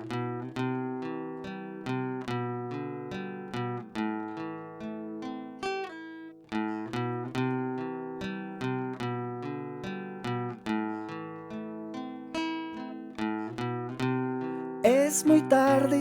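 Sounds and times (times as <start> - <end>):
acoustic guitar strumming chords: 0.0 - 5.6, 6.6 - 16.0.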